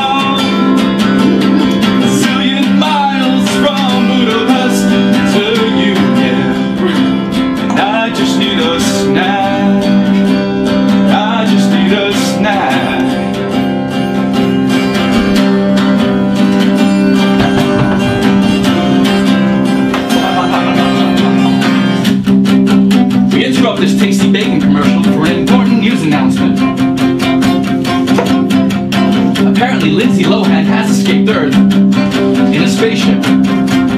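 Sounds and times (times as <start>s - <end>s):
acoustic guitar music: 0.0s - 33.9s.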